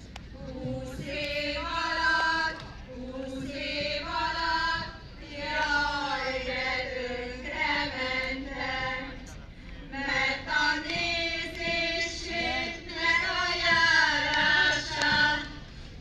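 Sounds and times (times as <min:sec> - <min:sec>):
choir singing in unison: 0:00.3 - 0:15.7.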